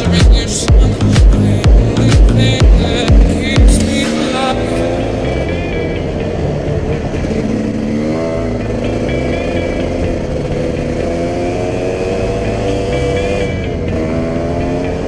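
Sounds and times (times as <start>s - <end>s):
background music: 0.0s - 15.0s
dirt bike engine revving: 0.0s - 15.0s.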